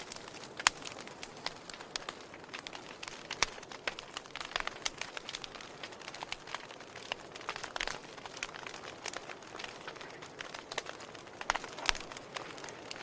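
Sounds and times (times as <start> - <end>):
fire crackling and popping: 0.0 - 13.0
wood fire hissing: 0.0 - 13.0.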